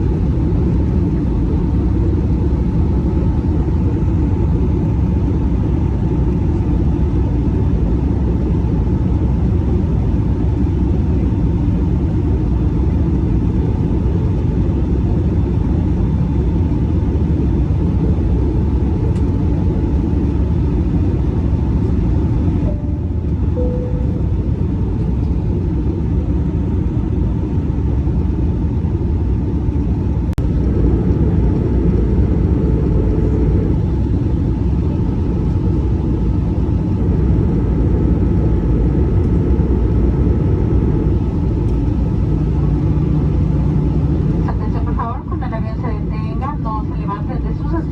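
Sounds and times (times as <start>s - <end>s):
faint steady whine: 0.0s - 47.9s
jet engine rumble in cabin: 0.0s - 47.9s.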